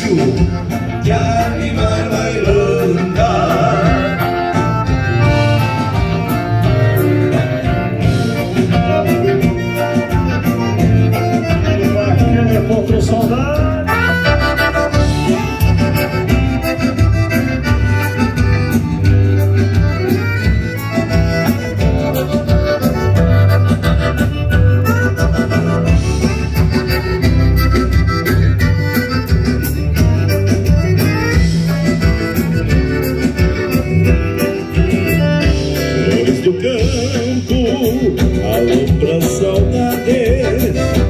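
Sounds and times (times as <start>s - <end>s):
accordion melody: 0.0s - 41.0s
bass line: 0.0s - 41.0s
guitars: 0.0s - 41.0s.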